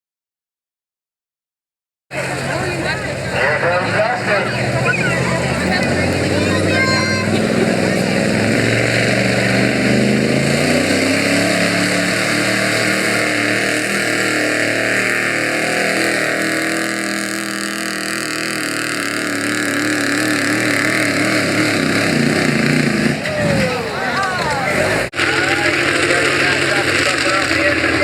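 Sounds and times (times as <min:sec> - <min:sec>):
truck engine running hard: 0:02.1 - 0:28.0.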